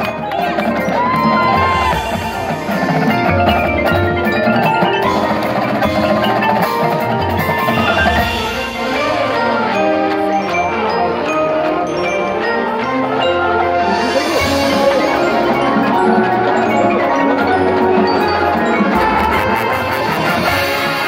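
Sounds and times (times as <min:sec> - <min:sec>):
marching band playing: 0:00.0 - 0:21.0
marimbas and mallet percussion: 0:00.0 - 0:21.0.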